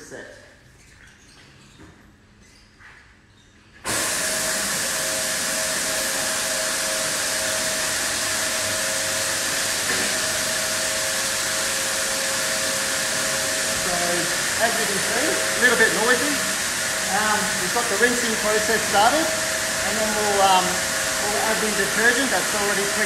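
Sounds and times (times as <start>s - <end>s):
machine whine: 3.8s - 23.0s
washing machine hissing: 3.8s - 23.0s.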